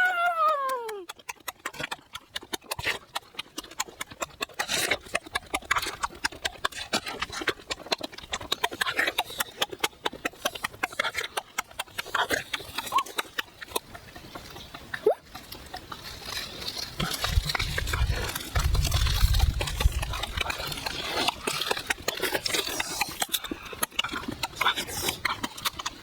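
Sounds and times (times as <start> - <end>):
chewing: 0.0 - 26.0.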